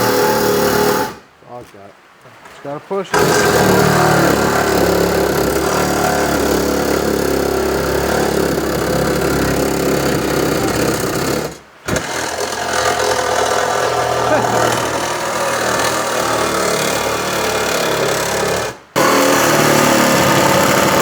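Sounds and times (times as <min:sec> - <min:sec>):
reciprocating saw cutting sheet metal: 0:00.0 - 0:01.2, 0:03.1 - 0:21.0.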